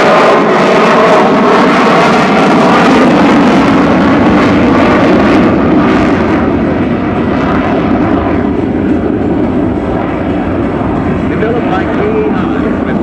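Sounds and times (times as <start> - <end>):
jet aircraft flying: 0.0 - 13.0.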